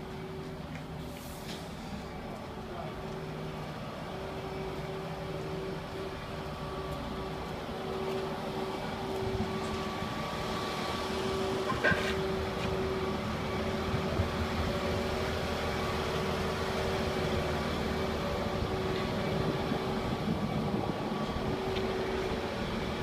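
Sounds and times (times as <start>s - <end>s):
machine low drone: 0.0s - 23.0s.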